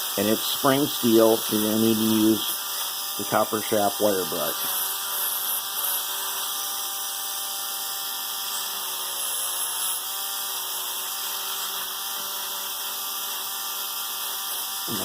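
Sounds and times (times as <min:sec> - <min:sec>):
rotary tool whine: 0:00.0 - 0:15.0.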